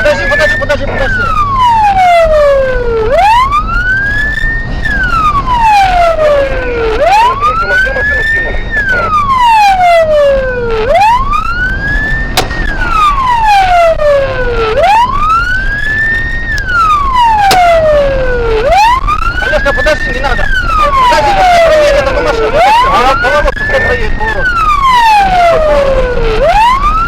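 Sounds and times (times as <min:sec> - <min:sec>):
police siren wailing: 0:00.0 - 0:27.0.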